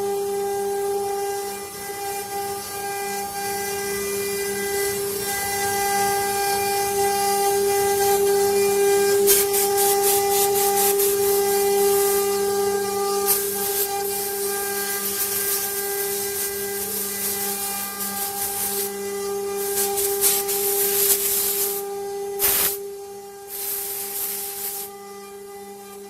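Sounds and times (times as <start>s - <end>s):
router spindle high whine: 0.0s - 26.0s
bit cutting wood hissing: 4.5s - 25.9s.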